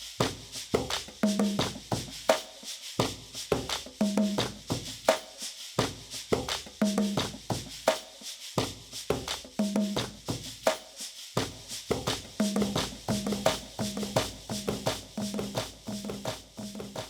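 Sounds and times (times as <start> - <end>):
percussion instrumental music: 0.0 - 17.0.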